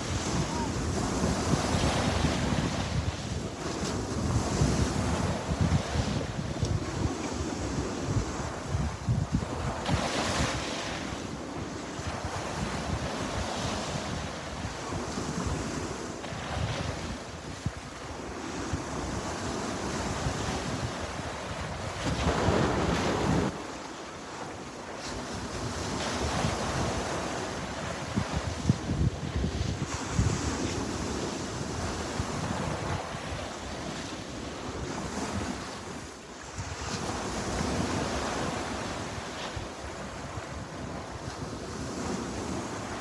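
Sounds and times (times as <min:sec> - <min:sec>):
wind buffeting microphone: 0:00.0 - 0:23.6, 0:25.1 - 0:43.0
sea waves breaking on shore: 0:00.0 - 0:43.0.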